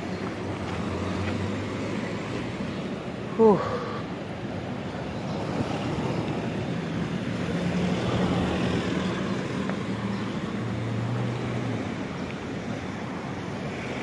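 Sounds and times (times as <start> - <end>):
road noise: 0.0 - 14.0
vehicle engines humming: 0.0 - 14.0.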